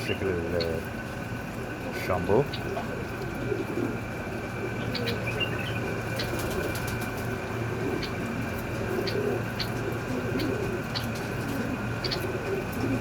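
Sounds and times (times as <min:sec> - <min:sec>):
pigeons cooing: 0:00.0 - 0:13.0
steady hum: 0:00.0 - 0:13.0.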